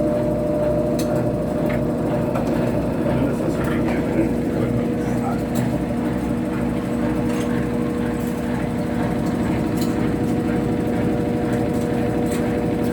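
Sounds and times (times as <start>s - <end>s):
washing machine motor humming: 0.0s - 12.9s.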